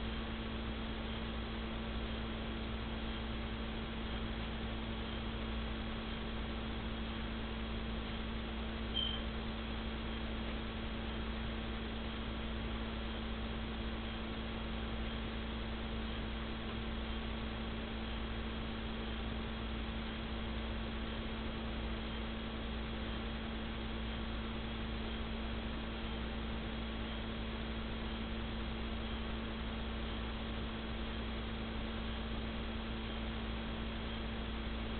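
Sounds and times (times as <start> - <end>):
electrical hum: 0.0 - 34.9.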